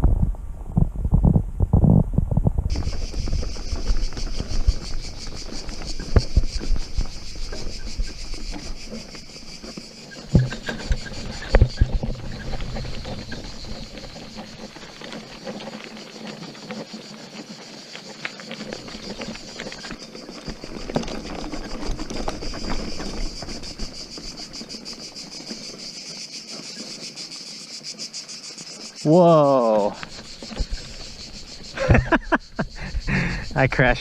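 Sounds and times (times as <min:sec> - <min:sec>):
sharp knocks and rattles: 0:01.1 - 0:17.1, 0:18.3 - 0:26.0, 0:30.0 - 0:33.5
high-pitched insect buzz: 0:02.7 - 0:16.2, 0:16.8 - 0:34.0.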